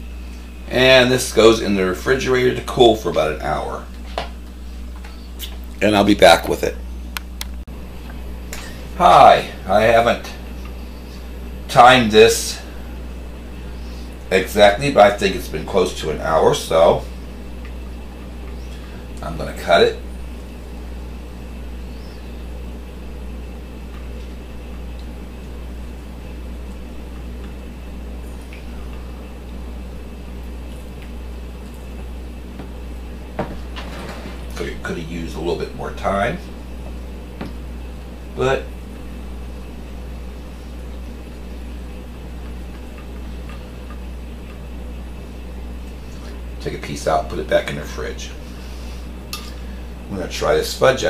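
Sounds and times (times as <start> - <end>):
low hum: 0.0 - 50.3.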